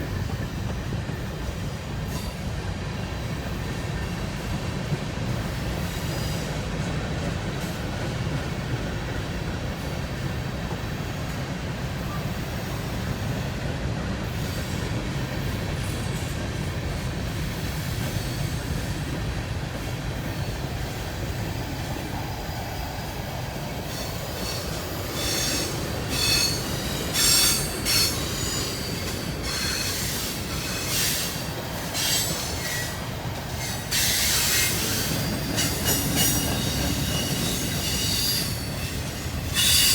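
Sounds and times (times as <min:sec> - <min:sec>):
freight train cars rumbling past: 0:00.0 - 0:39.9
train wheels squealing: 0:00.0 - 0:39.9.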